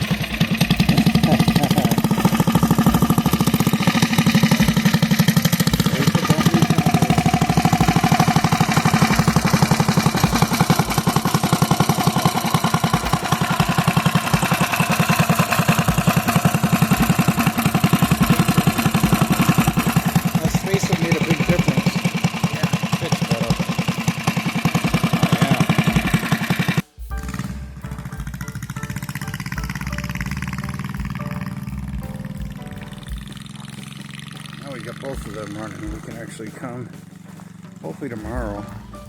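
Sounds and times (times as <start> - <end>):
small motorbike engine running: 0.0 - 39.0.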